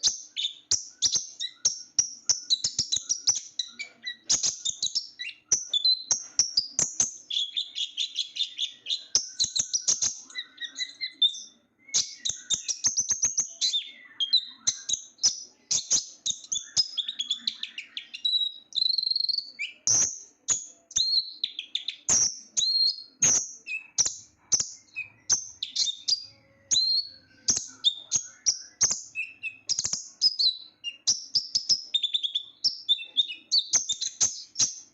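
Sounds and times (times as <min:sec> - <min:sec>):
small bird twittering: 0:00.0 - 0:34.9.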